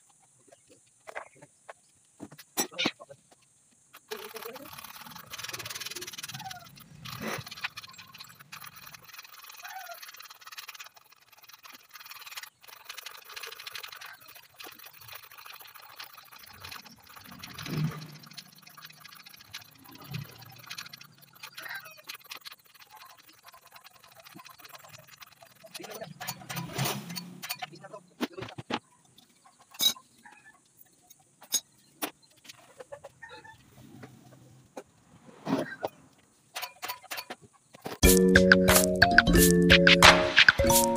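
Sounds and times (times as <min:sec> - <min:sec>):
chickens clucking: 0:04.0 - 0:13.1, 0:15.8 - 0:39.5.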